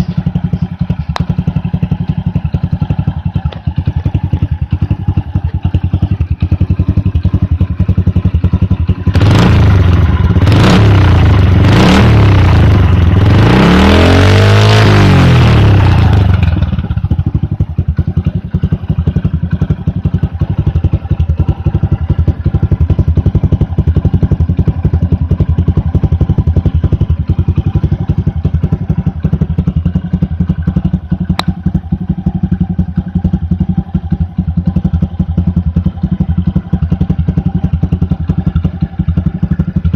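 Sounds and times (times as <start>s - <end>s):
motorcycle engine idling: 0.0s - 39.9s
motorcycle engine revving: 0.0s - 39.9s.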